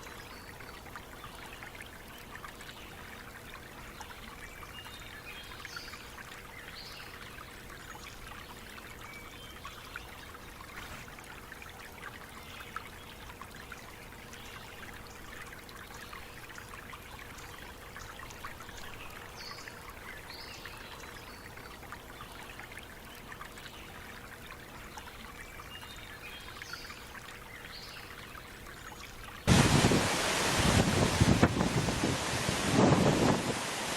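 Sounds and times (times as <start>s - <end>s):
stream trickling and splashing: 0.0s - 33.9s.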